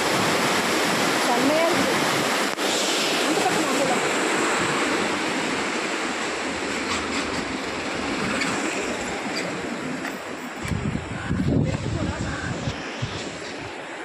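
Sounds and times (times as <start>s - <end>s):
water roaring through sluice gates: 0.0s - 14.0s.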